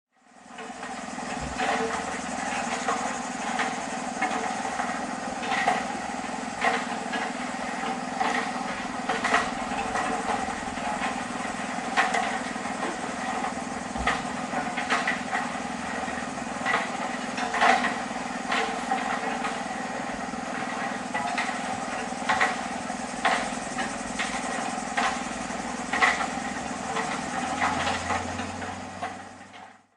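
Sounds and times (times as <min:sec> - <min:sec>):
machine engine running: 0:00.2 - 0:29.9
sharp knocks and clanks: 0:00.6 - 0:06.0, 0:06.6 - 0:19.8, 0:20.5 - 0:29.8.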